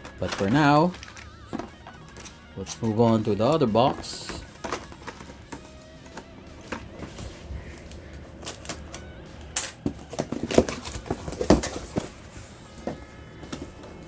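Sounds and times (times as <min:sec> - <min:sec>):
packaging clicks and rustles: 0:00.0 - 0:14.0.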